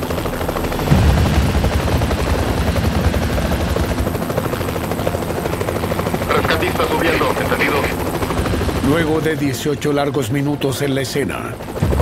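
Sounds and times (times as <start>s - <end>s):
helicopter rotor chop: 0.0s - 12.0s
helicopter turbine rumble: 0.0s - 12.0s.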